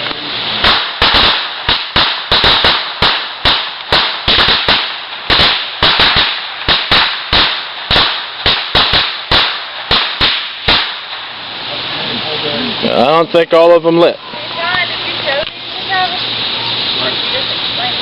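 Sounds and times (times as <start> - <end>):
firecrackers banging: 0.0 - 13.0, 13.6 - 18.0
fuse hiss: 0.0 - 18.0.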